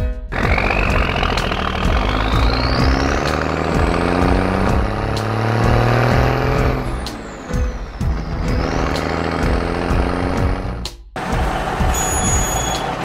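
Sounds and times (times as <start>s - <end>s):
background music with steady beat: 0.0s - 13.0s
cartoon truck engine sound effect: 0.3s - 13.0s.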